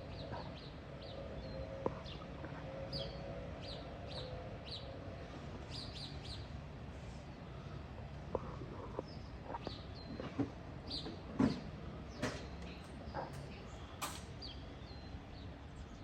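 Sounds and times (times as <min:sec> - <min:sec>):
birds chirping: 0:00.0 - 0:06.7, 0:07.3 - 0:16.0.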